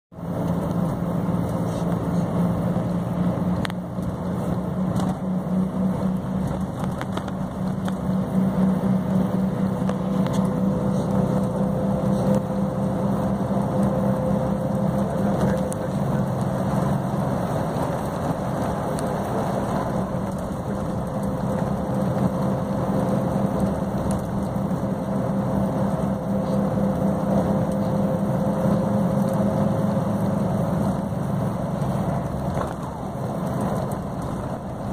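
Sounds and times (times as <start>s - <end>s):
engine drone and road noise: 0.1s - 34.9s
faint rising whine: 0.2s - 34.9s.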